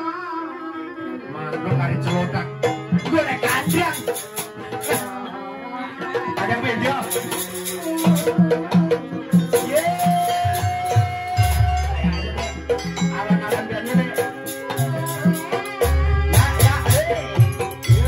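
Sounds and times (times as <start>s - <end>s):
drums and rattling percussion: 1.6s - 5.2s, 6.0s - 18.0s
pitched melody lines: 1.7s - 5.2s, 6.8s - 18.0s.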